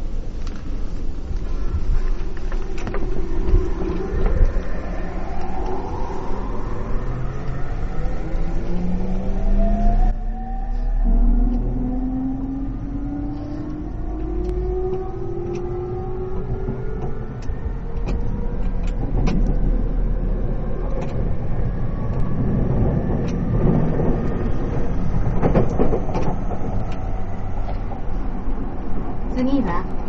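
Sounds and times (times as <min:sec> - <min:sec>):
wheels clicking on track: 0:00.0 - 0:09.4, 0:10.8 - 0:30.0
electric train motor whine: 0:00.0 - 0:28.6
train rumble: 0:00.0 - 0:30.0.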